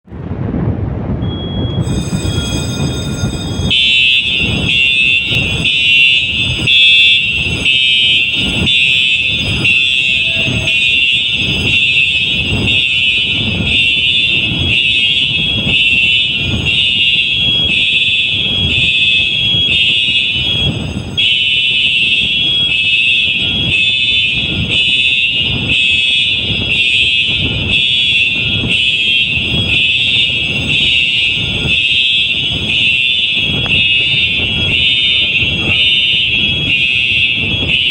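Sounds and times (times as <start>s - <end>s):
shrill pulsing fire alarm tone: 1.2s - 37.9s.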